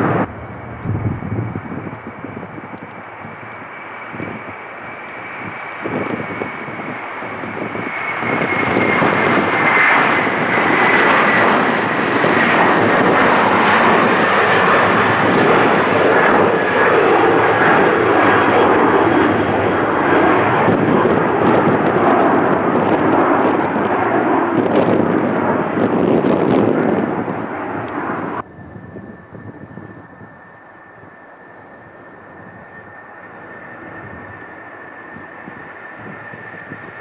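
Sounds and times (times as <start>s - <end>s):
jet engines at takeoff: 0.0s - 37.0s.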